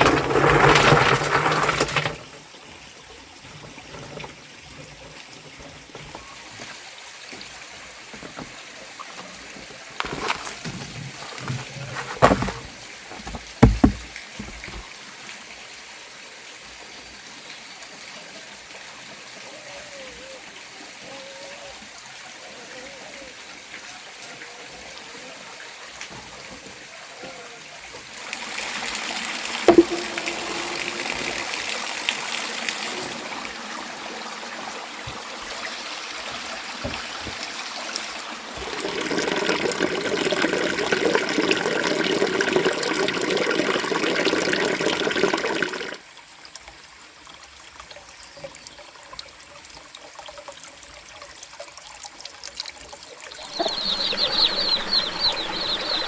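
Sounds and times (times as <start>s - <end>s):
water trickling and flowing: 2.2s - 56.0s.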